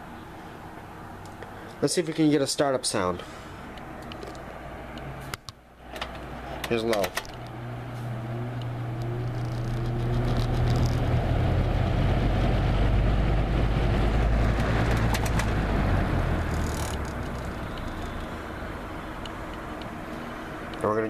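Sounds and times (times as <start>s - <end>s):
box fan motor hum: 0.0s - 21.0s
fan blade whir: 0.0s - 21.0s.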